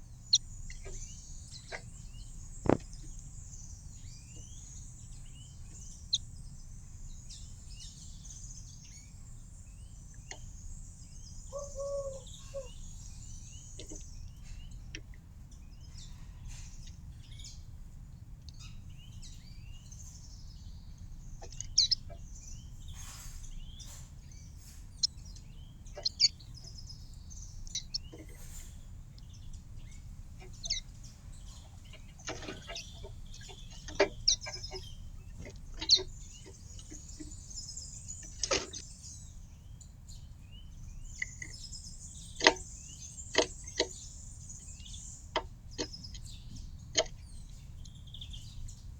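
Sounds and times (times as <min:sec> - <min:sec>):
low background rumble: 0:00.0 - 0:48.9
small birds chirping: 0:00.0 - 0:48.9.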